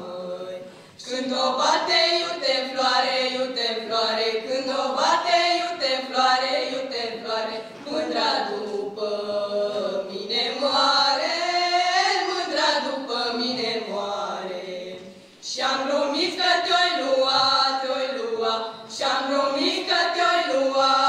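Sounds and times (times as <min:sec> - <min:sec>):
women singing unaccompanied: 0:00.0 - 0:21.0.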